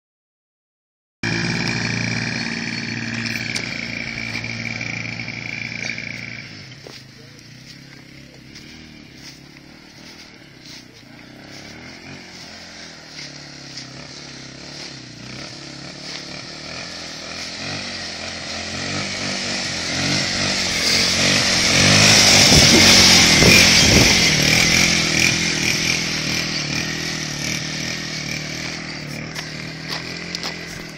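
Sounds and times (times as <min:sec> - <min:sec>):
quad bike engine revving by: 0:01.2 - 0:30.9.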